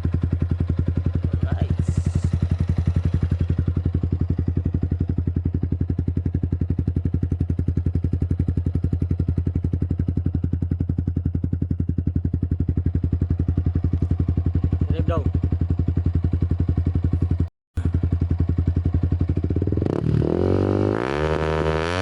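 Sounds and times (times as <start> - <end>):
motorcycle engine idling: 0.0 - 20.3.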